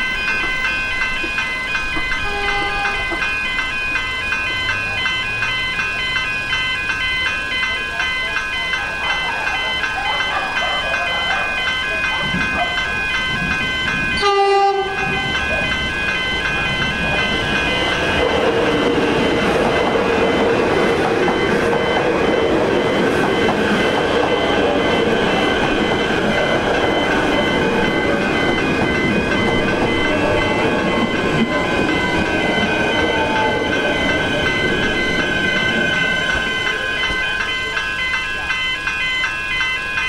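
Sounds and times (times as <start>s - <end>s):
crossing warning bells: 0.0s - 40.0s
wheels rushing on rails: 0.0s - 40.0s.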